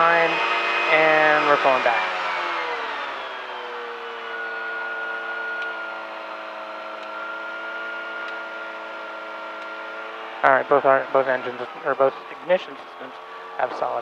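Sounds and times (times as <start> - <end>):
aircraft piston engine running: 0.0 - 7.1, 8.2 - 14.0.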